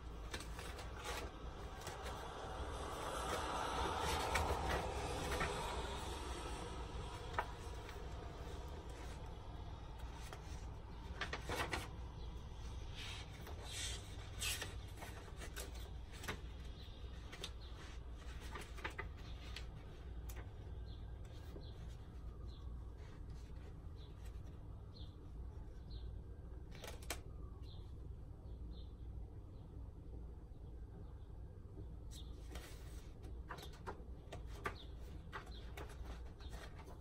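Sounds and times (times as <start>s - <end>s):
book pages turning: 0.0s - 24.6s, 26.7s - 27.3s, 32.4s - 37.0s.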